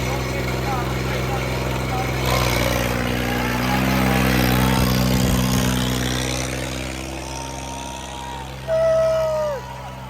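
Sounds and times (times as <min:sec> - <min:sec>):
tractor diesel engine revving: 0:00.0 - 0:10.0.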